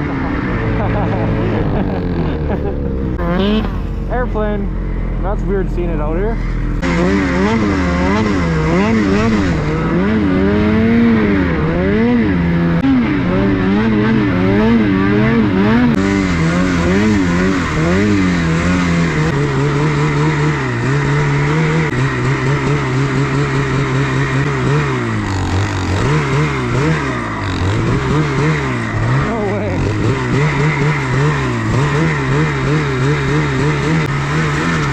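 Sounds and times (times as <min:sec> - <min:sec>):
snowmobile engine revving: 0:00.0 - 0:34.9.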